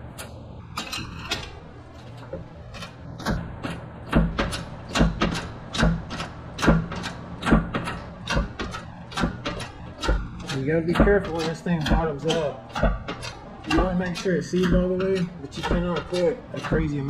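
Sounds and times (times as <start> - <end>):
shop press clunking: 0.0 - 17.0
steady low hum: 0.0 - 17.0.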